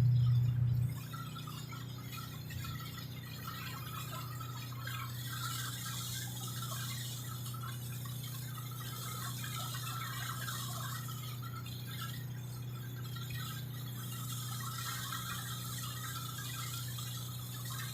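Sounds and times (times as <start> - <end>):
ferry engine drone: 0.0 - 17.9.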